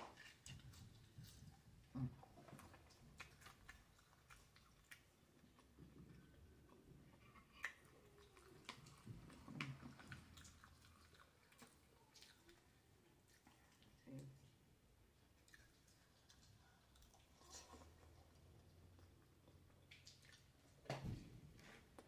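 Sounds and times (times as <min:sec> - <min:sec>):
chewing soft food: 0:00.0 - 0:22.0.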